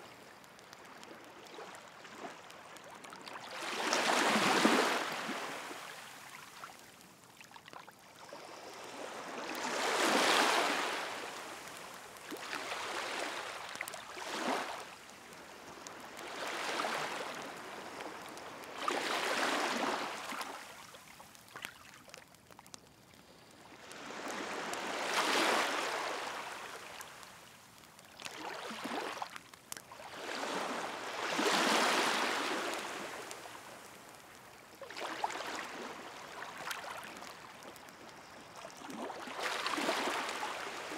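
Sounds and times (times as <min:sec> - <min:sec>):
sea waves washing onto shore: 0:00.0 - 0:22.7, 0:23.3 - 0:40.9
faint bonfire crackle: 0:00.0 - 0:40.9.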